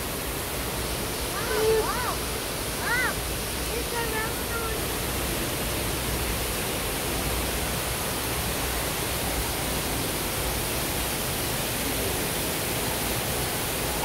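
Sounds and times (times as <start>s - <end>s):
indoor hall background hiss: 0.0s - 14.0s.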